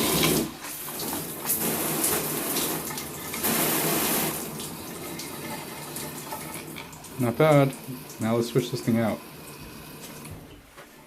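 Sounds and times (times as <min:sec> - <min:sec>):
water spraying from shower head: 0:00.0 - 0:10.5.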